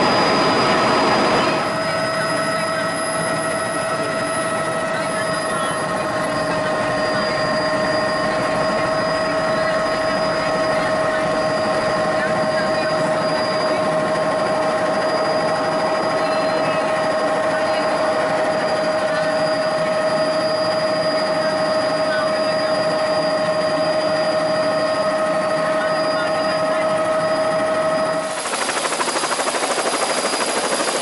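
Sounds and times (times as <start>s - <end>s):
helicopter engine whine: 0.0s - 31.0s.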